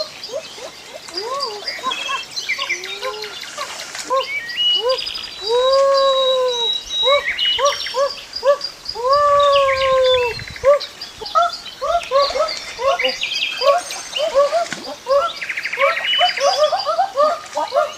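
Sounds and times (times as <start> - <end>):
birds chirping: 0.0 - 17.9.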